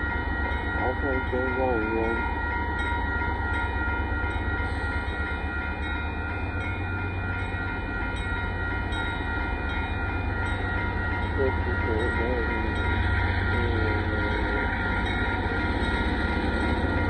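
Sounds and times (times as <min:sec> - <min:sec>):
railroad crossing bell ringing: 0:00.0 - 0:17.0.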